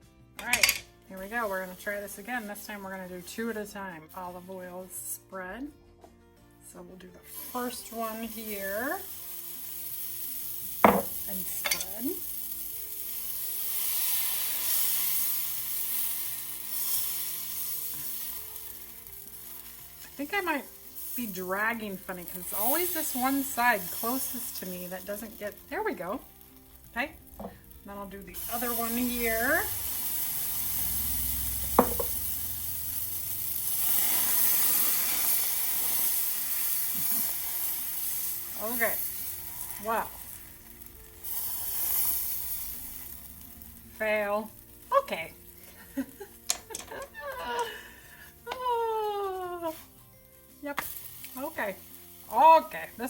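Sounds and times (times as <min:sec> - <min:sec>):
batter sizzling on griddle: 0:00.0 - 0:05.3, 0:07.2 - 0:53.0.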